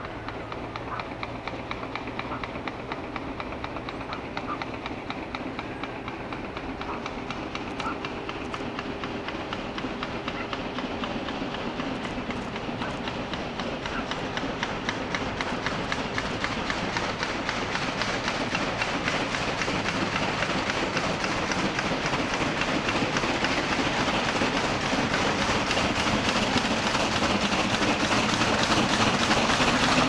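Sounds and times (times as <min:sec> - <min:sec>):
steam locomotive exhaust beating: 0:00.0 - 0:30.0.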